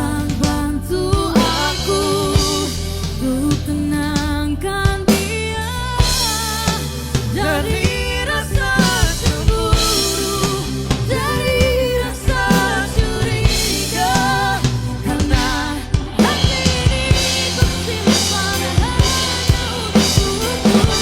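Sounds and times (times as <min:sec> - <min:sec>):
electronic drum kit: 0:00.0 - 0:21.0
pop song with sung vocal: 0:00.0 - 0:21.0.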